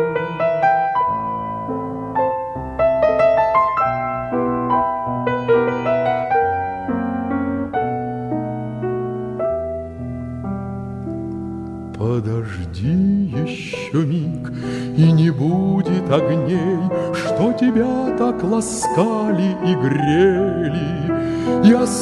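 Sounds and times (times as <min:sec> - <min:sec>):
slow piano melody: 0:00.0 - 0:22.0.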